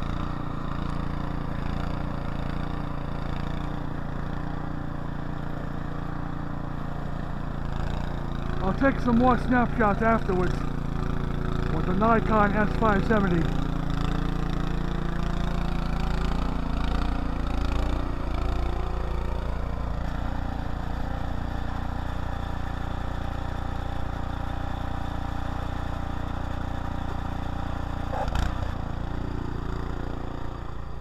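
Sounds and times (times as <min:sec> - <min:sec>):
small gasoline engine running: 0:00.0 - 0:31.0.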